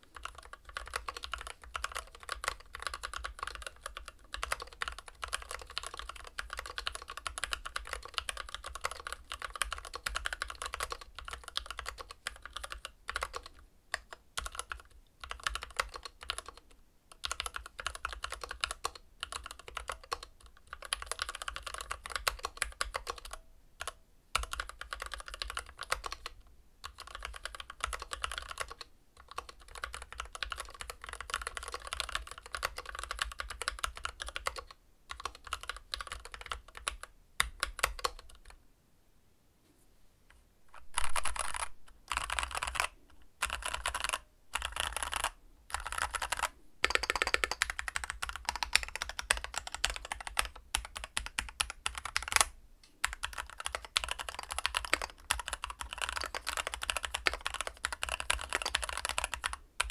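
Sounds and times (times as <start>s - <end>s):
mechanical keyboard typing: 0.0s - 38.6s, 40.7s - 59.9s.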